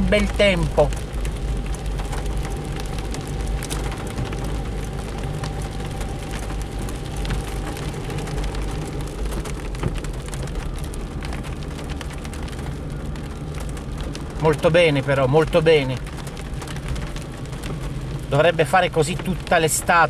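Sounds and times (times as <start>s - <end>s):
car engine running: 0.0s - 20.0s
raindrops ticking on car roof: 0.0s - 20.0s.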